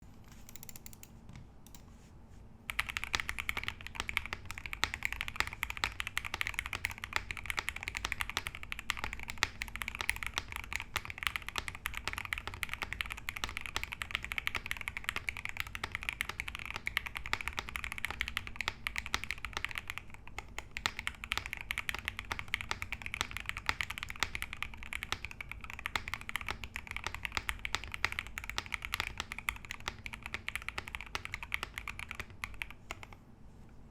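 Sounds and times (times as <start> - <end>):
mechanical keyboard typing: 0.4 - 1.1, 2.7 - 33.2.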